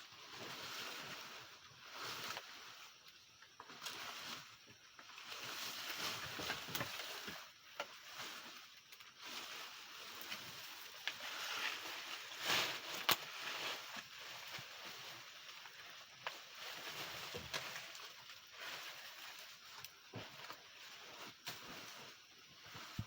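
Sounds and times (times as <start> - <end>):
dry stalks rustling and crackling: 0.0 - 23.0.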